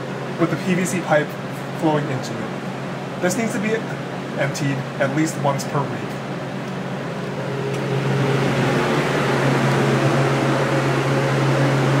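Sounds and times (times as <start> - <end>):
refrigerator cooling unit hum: 0.0 - 12.0.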